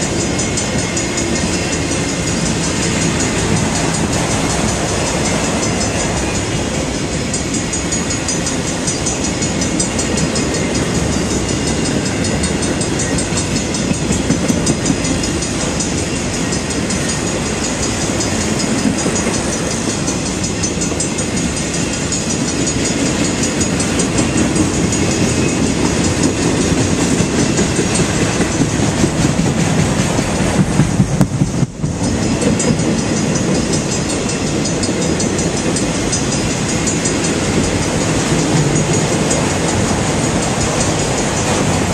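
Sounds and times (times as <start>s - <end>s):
freight train wheels clacking: 0.0s - 41.9s.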